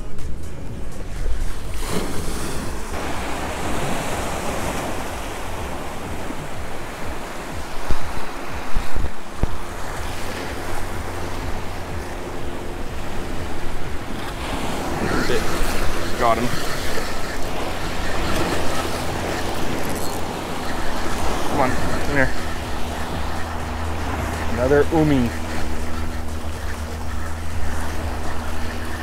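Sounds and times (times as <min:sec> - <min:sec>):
wind buffeting microphone: 0:00.0 - 0:29.0
small waves over rocky shoreline: 0:01.0 - 0:29.0.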